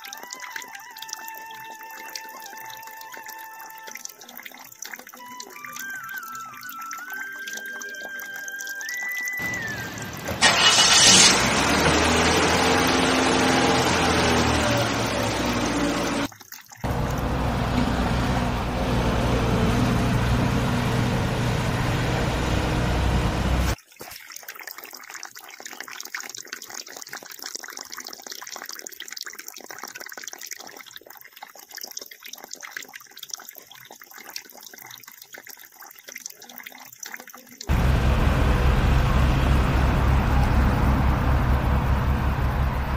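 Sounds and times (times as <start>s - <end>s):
water pouring and splashing: 0.0s - 18.9s, 23.7s - 41.2s.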